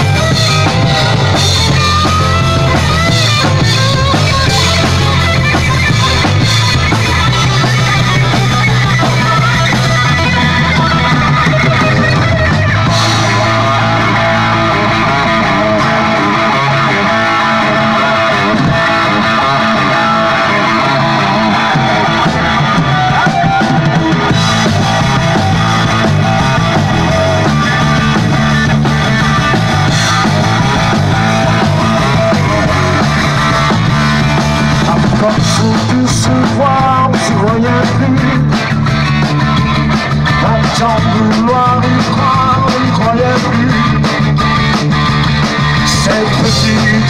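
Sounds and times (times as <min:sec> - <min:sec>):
rock band playing live: 0:00.0 - 0:47.0.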